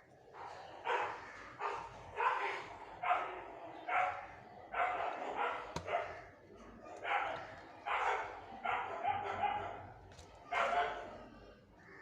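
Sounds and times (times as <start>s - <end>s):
dog barking: 0.4s - 11.1s.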